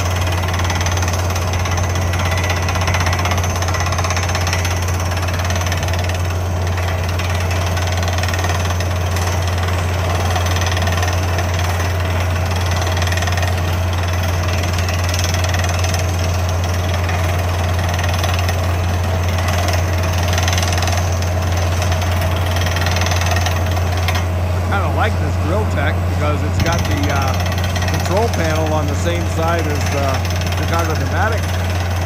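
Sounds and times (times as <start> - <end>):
drill hammering rattle: 0.0 - 32.0
engine and air compressor hum: 0.0 - 32.0.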